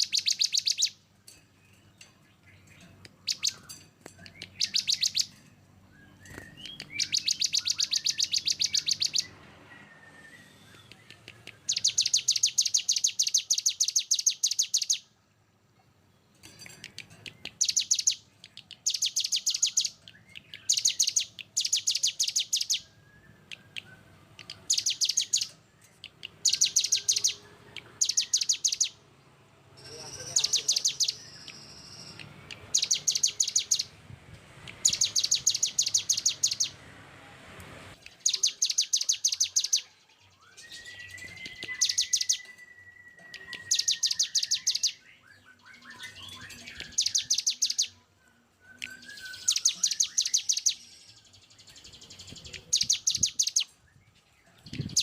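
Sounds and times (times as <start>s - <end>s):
songbird harsh trills: 0.0s - 1.1s, 1.7s - 15.2s, 16.5s - 29.0s, 29.8s - 34.0s, 34.7s - 36.8s, 38.0s - 48.1s, 48.7s - 53.9s.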